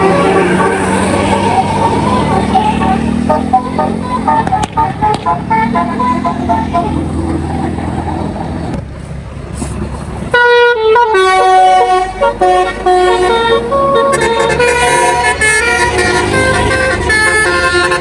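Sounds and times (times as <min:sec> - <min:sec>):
bus horn playing a melody: 0:00.0 - 0:07.8, 0:10.3 - 0:18.0
diesel engine rumble: 0:00.0 - 0:18.0.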